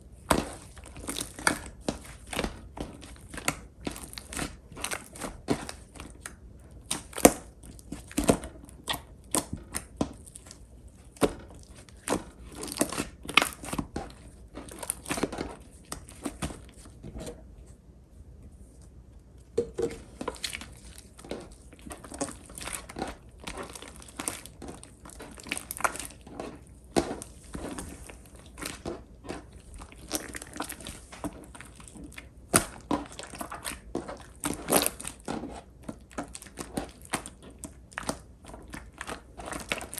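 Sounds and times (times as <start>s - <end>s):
slime crackling and popping: 0.2s - 16.6s, 20.3s - 39.9s.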